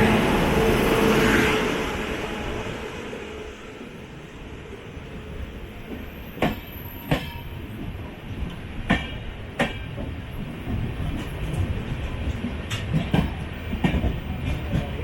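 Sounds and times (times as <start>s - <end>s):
train coach rumbling on rails: 0.0s - 15.0s.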